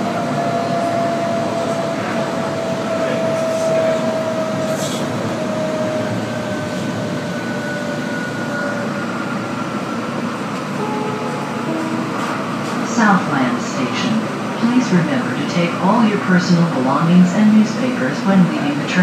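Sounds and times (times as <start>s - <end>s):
light rail train rumbling: 0.0s - 19.0s.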